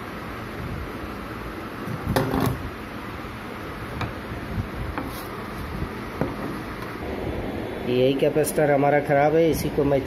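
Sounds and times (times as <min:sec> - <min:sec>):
steady background noise: 0:00.0 - 0:10.0.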